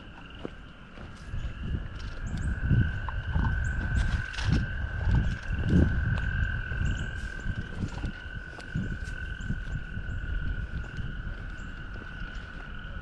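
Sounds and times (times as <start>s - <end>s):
frogs trilling: 0.0s - 13.0s
low rumble: 1.3s - 13.0s.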